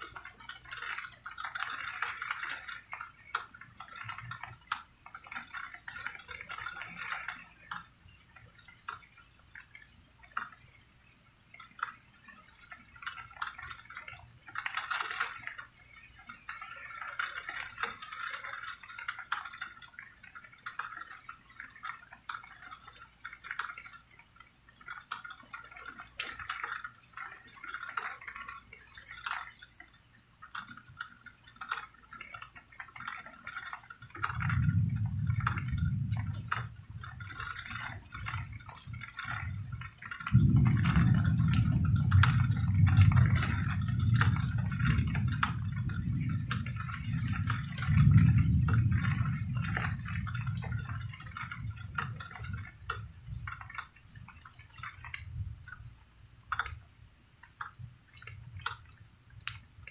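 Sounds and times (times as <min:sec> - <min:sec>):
rain dripping and splashing: 0:00.0 - 0:59.9.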